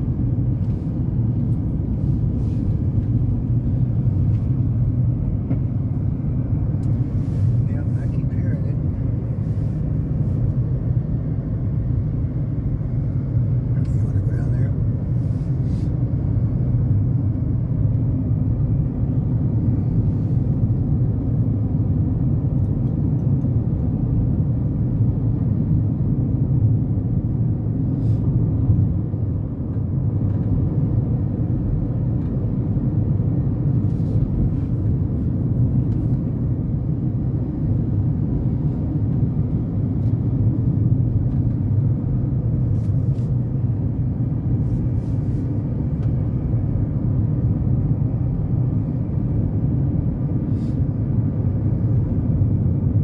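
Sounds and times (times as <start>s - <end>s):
car cabin road and engine rumble: 0.0s - 53.0s.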